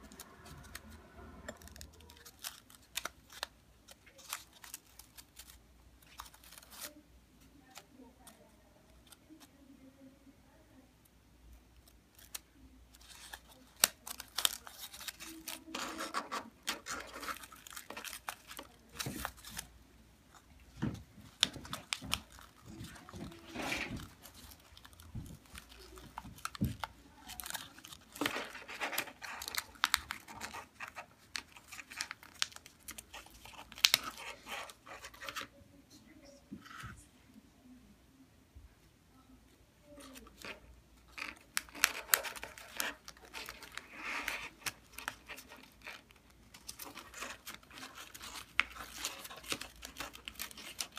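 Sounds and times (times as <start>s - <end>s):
folded paper rustling and crinkling: 0.0s - 7.0s, 12.2s - 35.6s, 39.9s - 50.9s.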